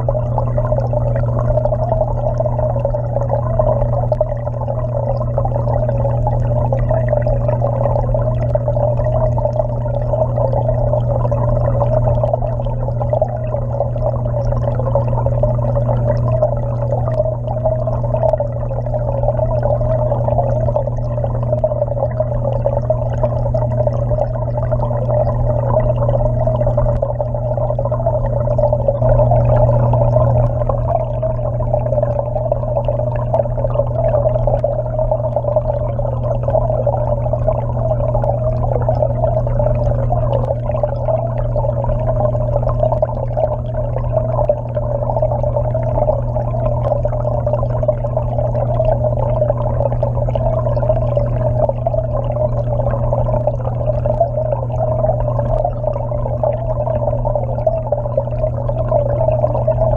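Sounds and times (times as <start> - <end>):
deep steady drone: 0.0 - 59.9
muffled underwater water churning: 0.0 - 59.9.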